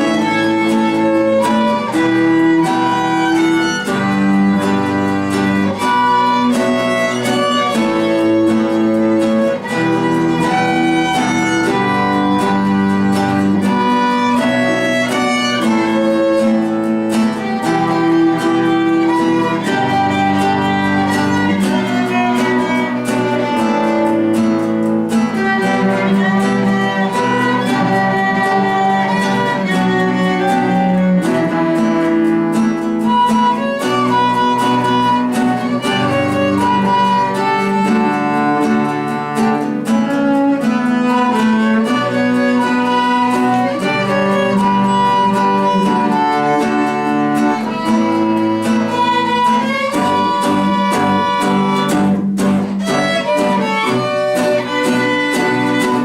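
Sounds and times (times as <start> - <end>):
acoustic guitar accompaniment: 0.0 - 56.0
cello bass line: 0.0 - 56.0
violins playing melody: 0.0 - 56.0.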